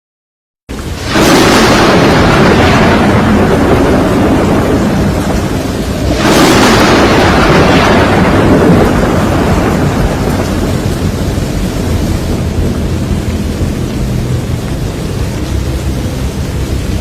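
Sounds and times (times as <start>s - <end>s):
storm rain: 0.7s - 17.0s
wind: 0.7s - 17.0s
thunderclap: 0.8s - 17.0s.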